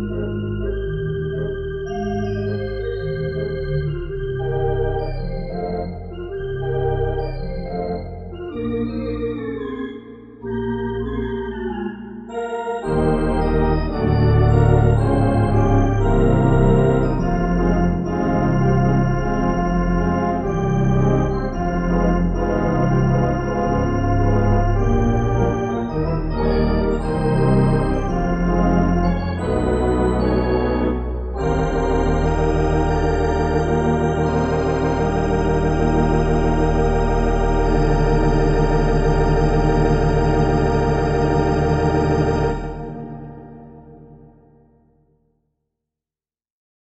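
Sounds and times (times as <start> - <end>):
pipe organ chords and melody: 0.0 - 44.9.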